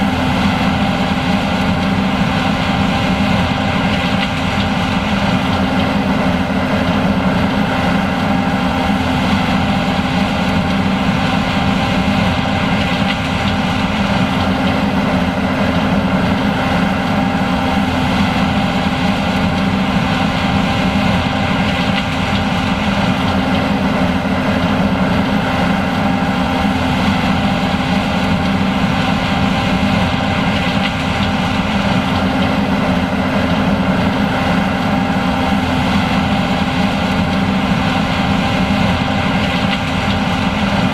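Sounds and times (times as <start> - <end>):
combine harvester droning: 0.0 - 40.9.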